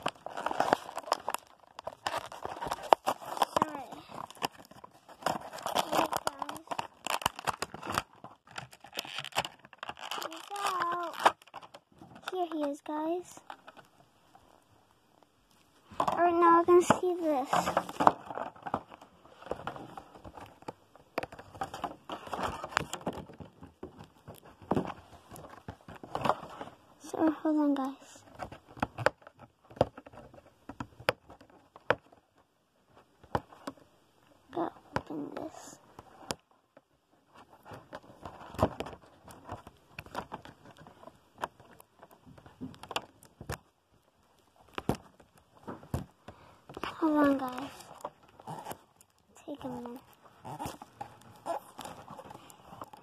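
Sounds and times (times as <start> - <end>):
packaging rustling and crackling: 0.0 - 14.6, 15.9 - 33.8, 37.3 - 53.0.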